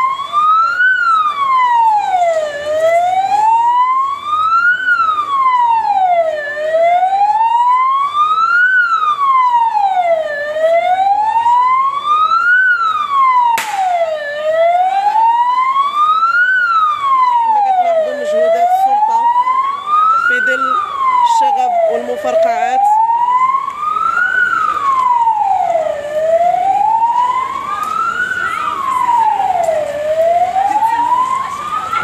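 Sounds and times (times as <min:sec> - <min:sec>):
wailing siren: 0:00.0 - 0:32.0.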